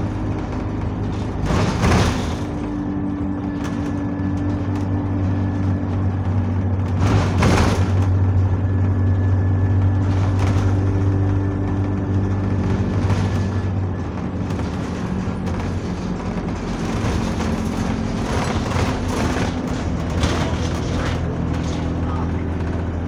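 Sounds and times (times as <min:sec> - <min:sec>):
bodywork rattle: 0:00.0 - 0:23.0
bus engine running: 0:00.0 - 0:23.0
road noise: 0:00.0 - 0:23.0.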